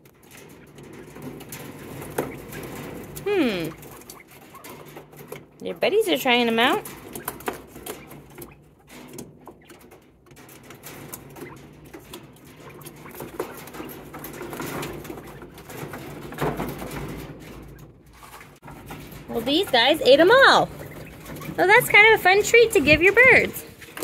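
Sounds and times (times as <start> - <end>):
birds pecking and scratching: 0.0 - 24.0.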